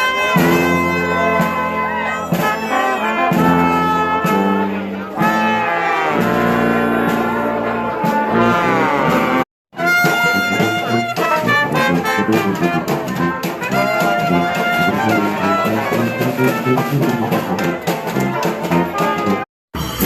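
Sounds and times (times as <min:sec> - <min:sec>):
jazz-like brass music: 0:00.0 - 0:20.0.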